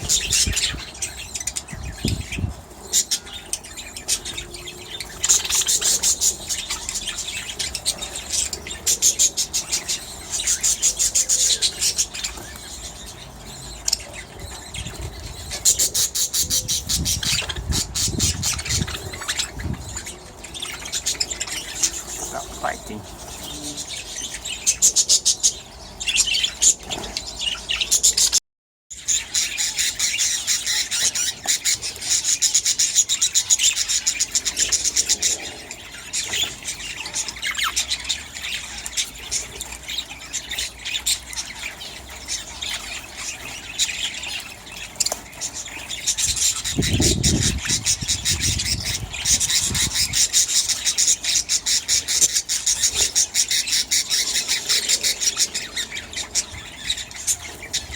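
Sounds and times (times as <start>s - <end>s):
budgerigars chattering and squawking: 0.0s - 57.9s.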